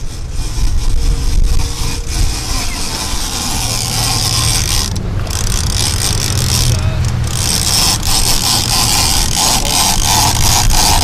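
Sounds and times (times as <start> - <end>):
outboard engines running: 0.0 - 11.0
wind: 0.0 - 11.0.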